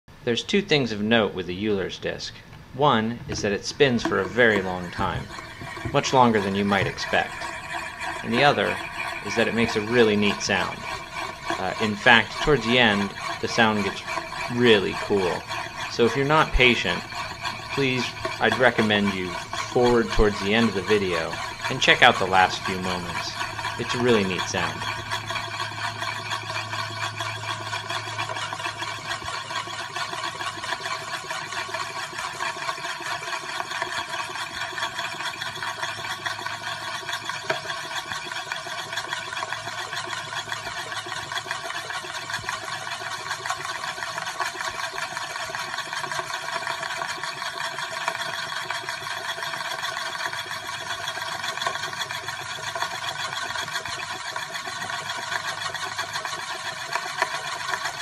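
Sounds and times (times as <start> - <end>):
spinning disk whirring rattle: 0.4 - 58.0.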